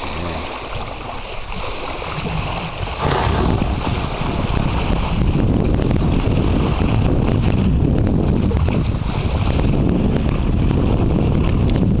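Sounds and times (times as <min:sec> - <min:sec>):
sea washing around yacht: 0:00.0 - 0:12.0
wind rumbling on microphone: 0:00.0 - 0:12.0.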